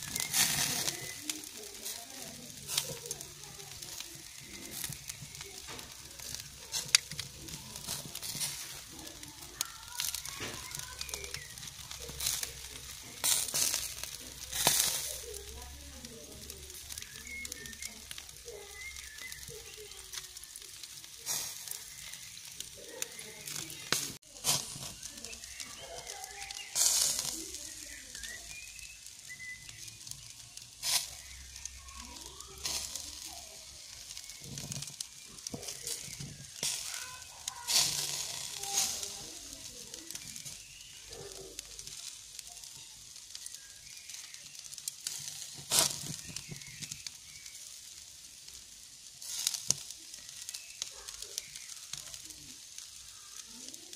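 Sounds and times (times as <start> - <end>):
charcoal crackles and pops: 0.0 - 53.9
meat sizzling over charcoal: 0.0 - 53.9.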